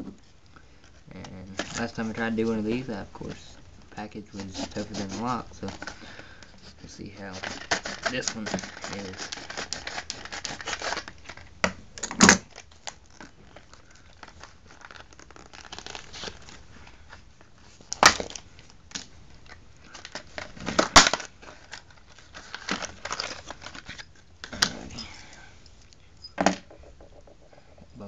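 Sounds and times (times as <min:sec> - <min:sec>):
plastic packaging crinkling: 0:00.8 - 0:25.9.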